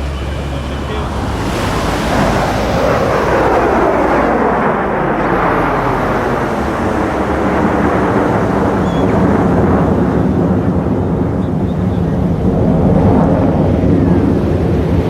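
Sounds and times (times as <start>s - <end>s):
jets flying past roaring: 0.0s - 15.0s.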